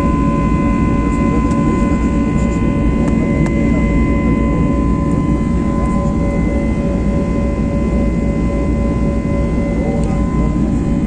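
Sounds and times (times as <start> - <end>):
aeroplane engines rumbling: 0.0 - 11.0.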